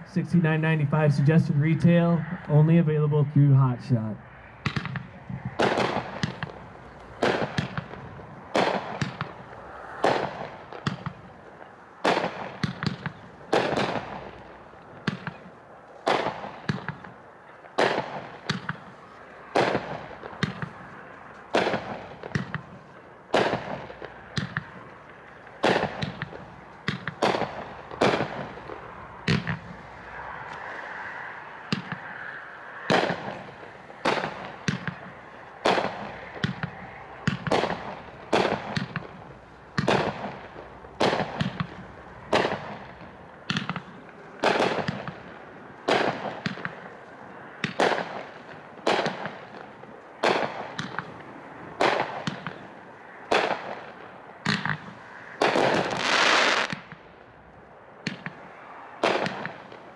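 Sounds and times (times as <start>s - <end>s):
firework bangs: 3.6s - 59.9s
firework crackle: 4.3s - 59.9s.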